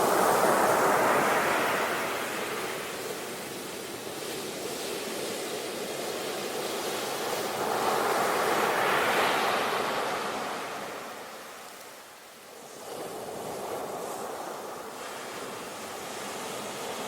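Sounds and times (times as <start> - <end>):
ocean waves on a beach: 0.0 - 17.0.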